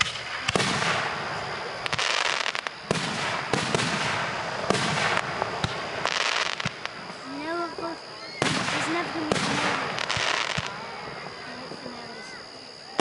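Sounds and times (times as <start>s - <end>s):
firework bangs: 0.0s - 13.0s
hissing crackle of fireworks: 0.0s - 13.0s.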